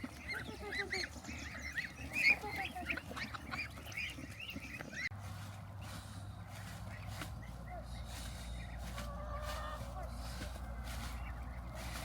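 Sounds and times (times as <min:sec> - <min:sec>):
flock of ducks calling: 0:00.0 - 0:12.0.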